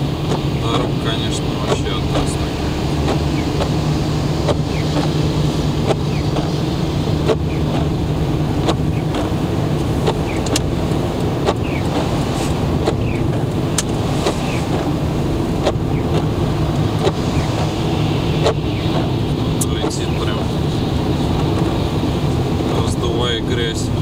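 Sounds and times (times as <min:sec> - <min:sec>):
car engine and tyre noise: 0:00.0 - 0:24.0
windscreen wipers clicking and squeaking: 0:00.0 - 0:24.0.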